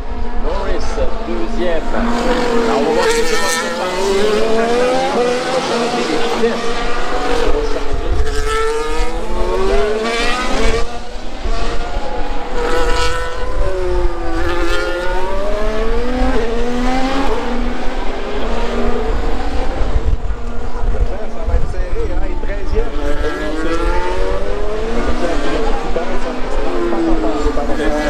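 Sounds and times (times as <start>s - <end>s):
racing cars passing: 0.0s - 28.0s.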